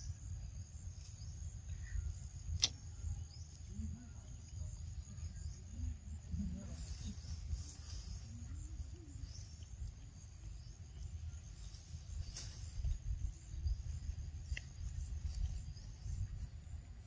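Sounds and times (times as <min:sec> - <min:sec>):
faint chirp: 0:00.0 - 0:17.0
insects trilling: 0:00.0 - 0:17.0.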